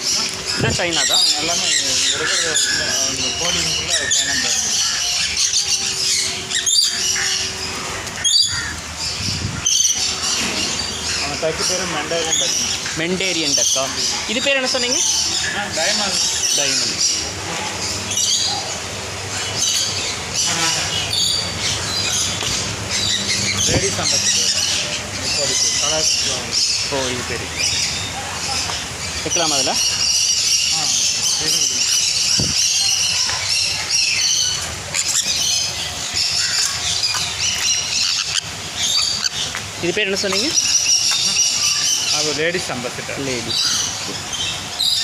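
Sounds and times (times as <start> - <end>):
steady low hum: 0.0 - 39.8
caged birds chirping and squawking: 0.0 - 45.0.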